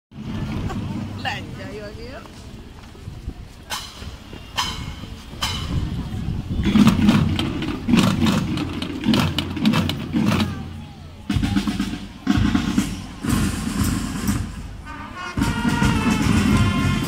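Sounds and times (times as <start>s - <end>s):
drums playing: 0.1s - 2.2s, 3.7s - 17.0s.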